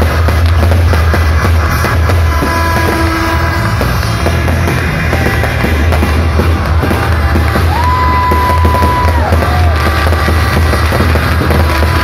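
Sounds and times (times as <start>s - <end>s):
crowd noise: 0.0s - 12.0s
fireworks bursting and crackling: 0.0s - 12.0s
loud music with heavy bass: 0.0s - 12.0s.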